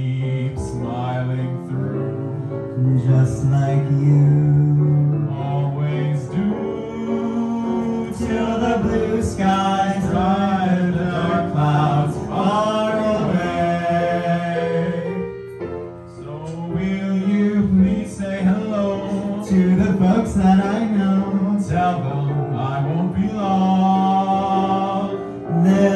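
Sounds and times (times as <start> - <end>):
two voices singing a duet: 0.0 - 25.9.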